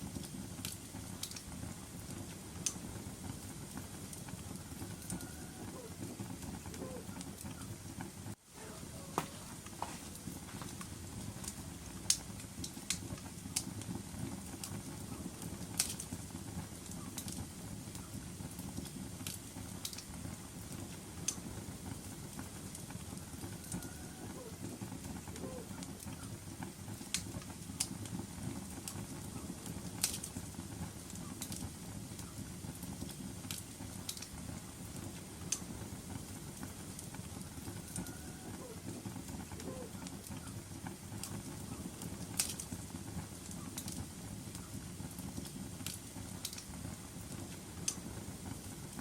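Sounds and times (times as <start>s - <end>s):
low rumble of flames: 0.0s - 49.0s
wood fire crackling: 0.0s - 49.0s.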